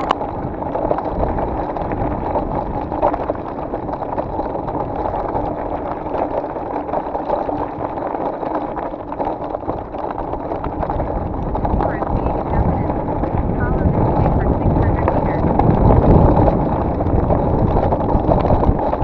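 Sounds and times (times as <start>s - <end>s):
bike rattling over stones: 0.0s - 19.0s
tyres rumbling on gravel: 0.0s - 19.0s
wind on microphone: 0.0s - 19.0s.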